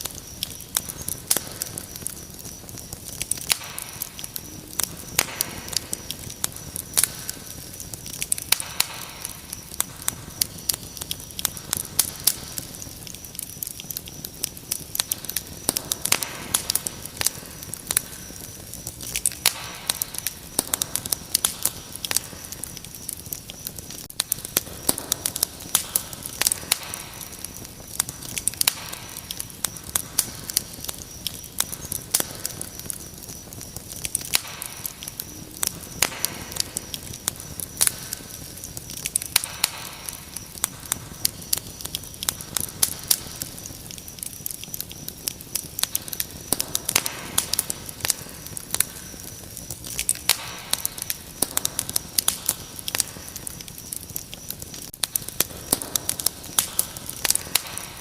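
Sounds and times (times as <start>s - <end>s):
crickets trilling: 0.0s - 58.0s
wood fire crackling and popping: 0.0s - 58.0s.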